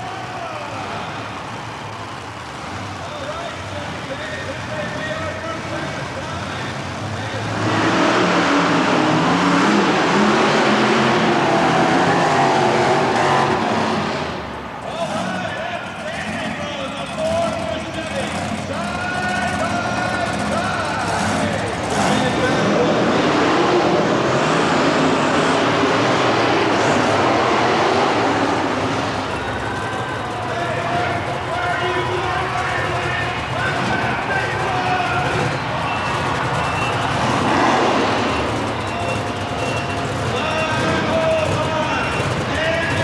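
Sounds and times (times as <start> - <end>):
monster truck engines revving: 0.0 - 43.0.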